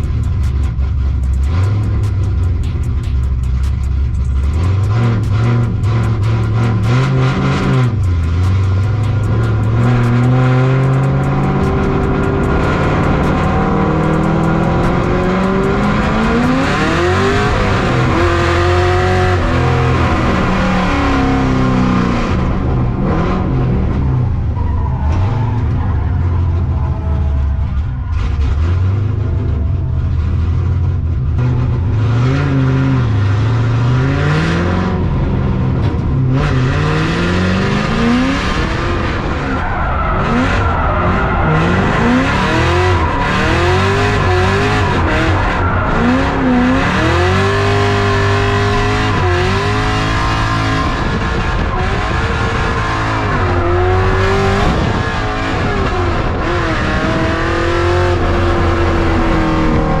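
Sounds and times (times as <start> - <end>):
car engine revving: 0.0 - 60.0
tires squealing: 0.0 - 60.0.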